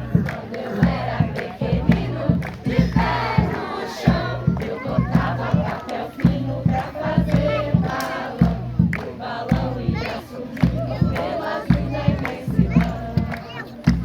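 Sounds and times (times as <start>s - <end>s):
steady low beat: 0.0s - 13.3s
crowd singing: 0.0s - 14.0s.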